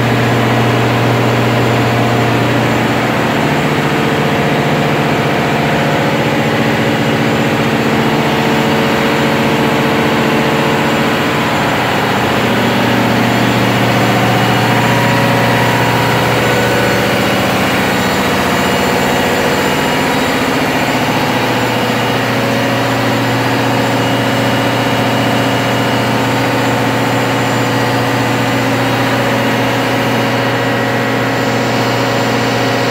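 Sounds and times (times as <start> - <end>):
ship diesel engine drone: 0.0 - 32.9.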